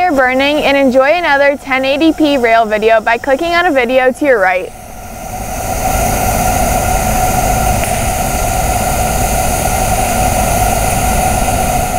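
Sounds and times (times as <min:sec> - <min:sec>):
steam locomotive venting steam: 0:00.0 - 0:11.9.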